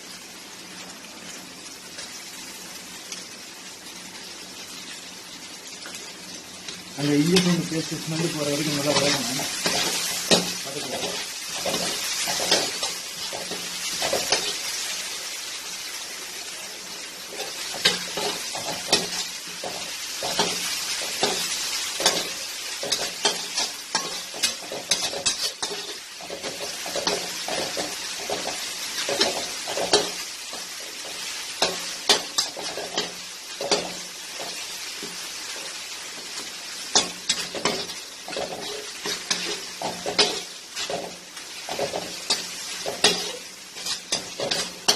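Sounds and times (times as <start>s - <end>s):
food sizzling in a pan: 0.0s - 44.9s.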